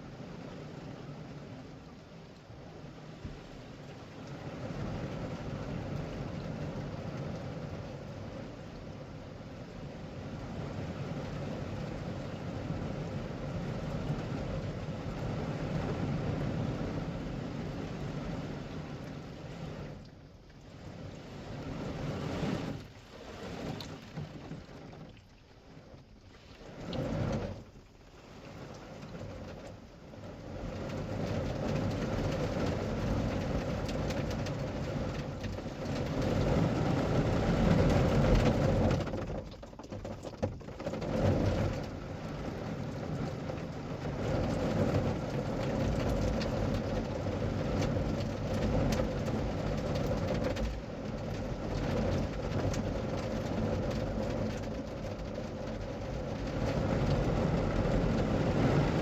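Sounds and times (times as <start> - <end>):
water drumming on car roof: 2.8 - 59.0.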